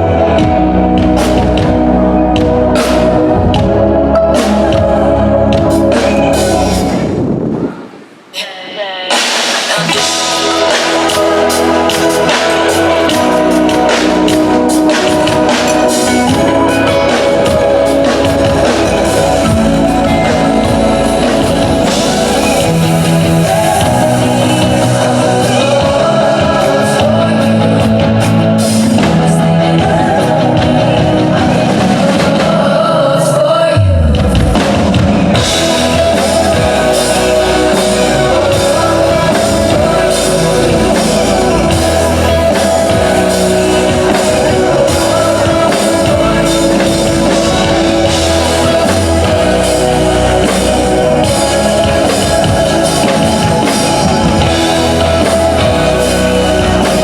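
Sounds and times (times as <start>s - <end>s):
drum kit: 0.0s - 57.0s
guitar: 0.0s - 57.0s
pop-rock band playing: 0.0s - 57.0s.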